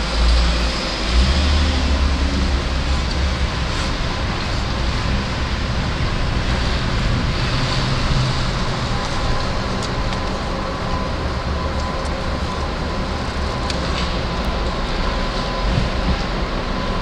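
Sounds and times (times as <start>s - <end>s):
car engine hum: 0.0s - 17.0s
tyre and road noise: 0.0s - 17.0s.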